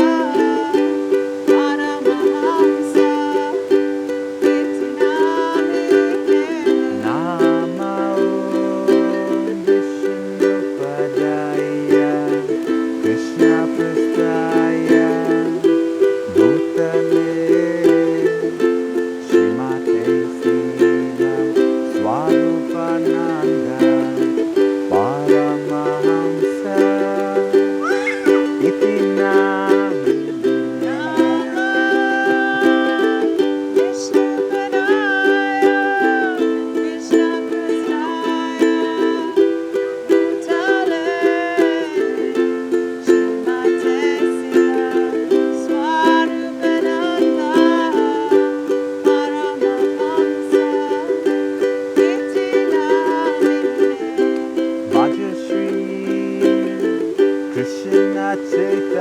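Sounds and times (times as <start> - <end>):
ukulele strumming: 0.0 - 59.0
voices singing: 0.0 - 59.0.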